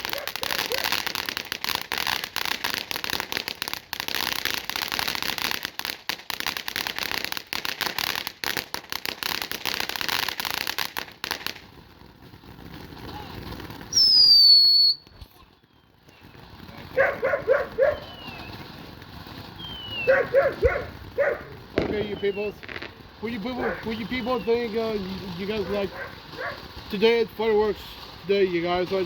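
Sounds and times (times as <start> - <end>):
fountain firework crackling: 0.0 - 29.0.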